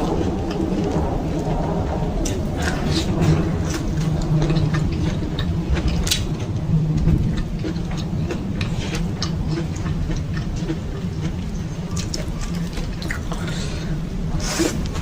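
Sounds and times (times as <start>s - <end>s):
wet chewing clicks: 0.0s - 13.7s
steady low hum: 0.0s - 15.0s.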